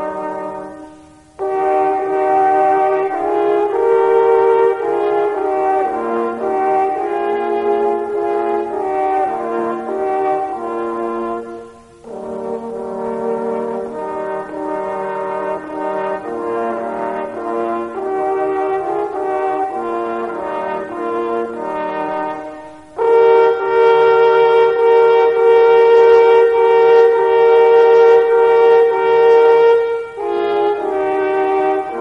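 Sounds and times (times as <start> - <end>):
brass instruments playing: 0.0 - 32.0.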